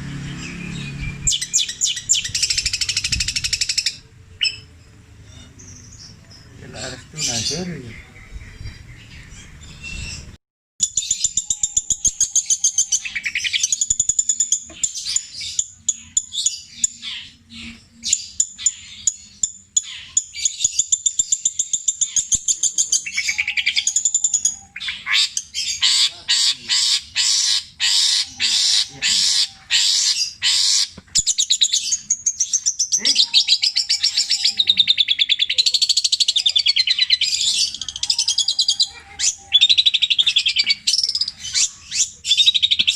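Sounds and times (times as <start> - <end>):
bird singing trills and chatter: 0.0 - 42.9.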